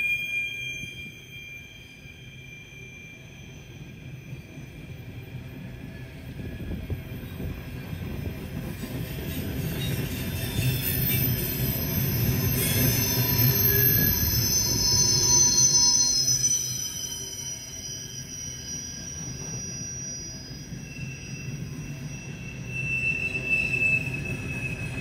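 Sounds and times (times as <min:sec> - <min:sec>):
train wheels squealing: 0:00.0 - 0:25.0
freight train rumble: 0:03.9 - 0:16.3, 0:17.2 - 0:25.0.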